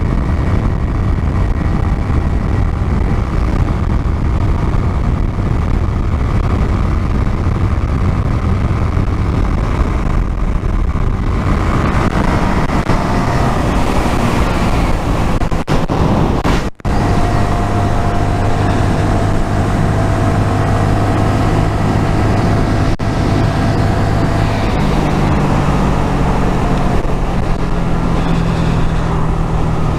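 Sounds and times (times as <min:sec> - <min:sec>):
motorcycle engine running: 0:00.0 - 0:29.9
road noise: 0:00.0 - 0:29.9
wind noise on microphone: 0:00.0 - 0:29.9.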